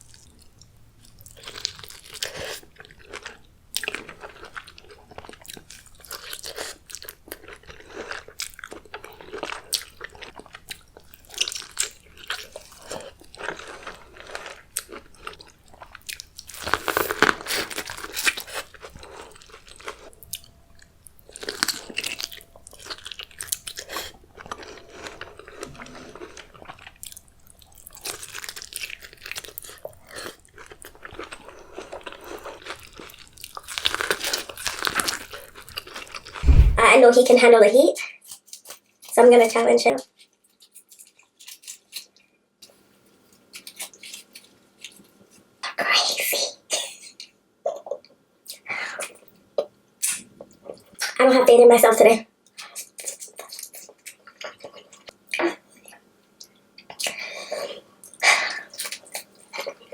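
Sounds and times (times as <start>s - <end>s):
person chewing with crunches: 0.0s - 36.7s, 40.2s - 45.4s, 52.5s - 59.9s.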